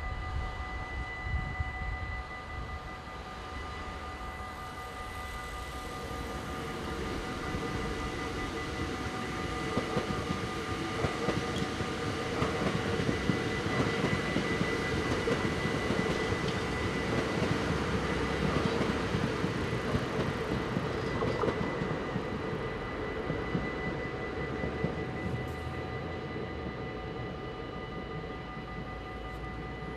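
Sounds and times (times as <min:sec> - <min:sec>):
crossing warning bell ringing: 0:00.0 - 0:29.9
electric train rumbling: 0:00.0 - 0:29.9
train wheels clacking on rails: 0:05.4 - 0:29.9.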